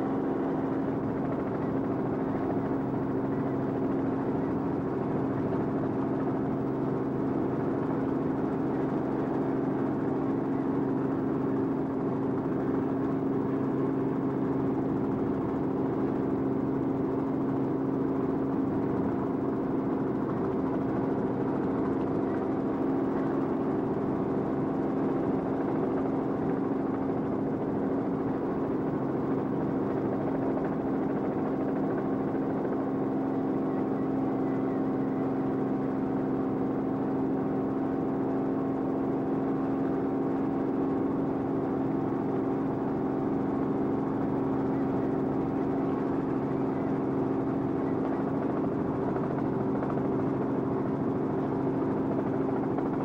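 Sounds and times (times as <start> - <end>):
aircraft engine drone from on board: 0.0 - 53.0.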